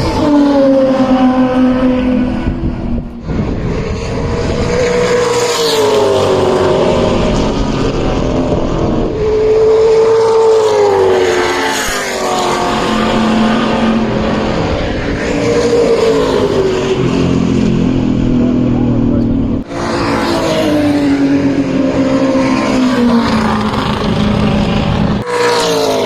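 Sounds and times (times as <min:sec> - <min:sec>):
racing car engine at full throttle: 0:00.0 - 0:26.0.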